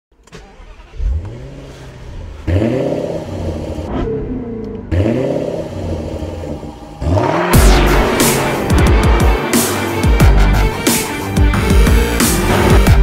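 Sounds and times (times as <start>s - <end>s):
car engine revving: 0.3s - 13.0s.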